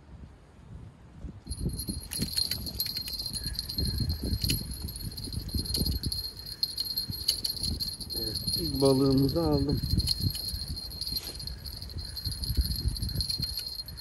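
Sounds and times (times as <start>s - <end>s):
fishing rod bell jingling: 1.5s - 14.0s.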